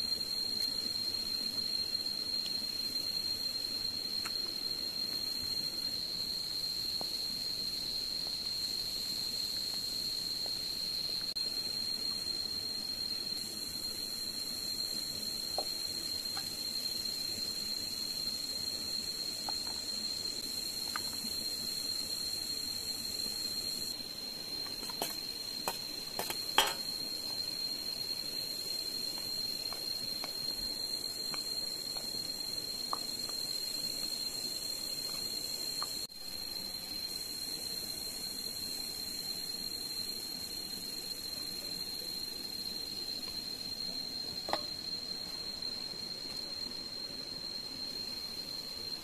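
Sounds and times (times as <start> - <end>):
steady high-pitched whine: 0.0 - 49.0.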